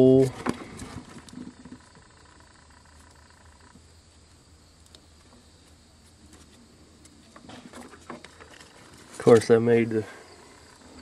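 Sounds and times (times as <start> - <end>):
faint low hum and hiss: 0.0 - 11.0.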